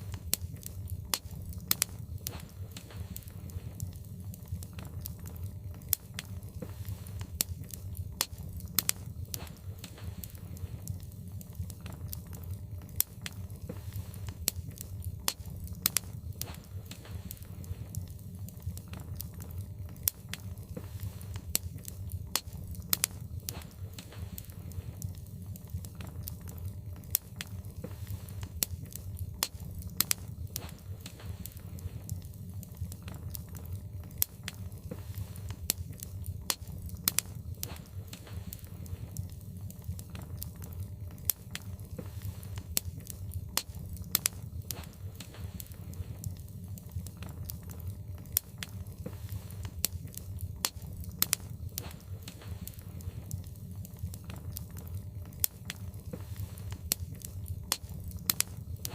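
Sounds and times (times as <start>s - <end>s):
logs crackling and popping in fire: 0.0s - 58.9s
low fire rumble: 0.0s - 58.9s.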